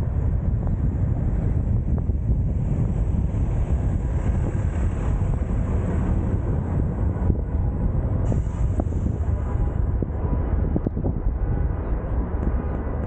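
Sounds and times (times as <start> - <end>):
road and traffic noise: 0.0 - 13.0
wind rumble on microphone: 0.0 - 13.0.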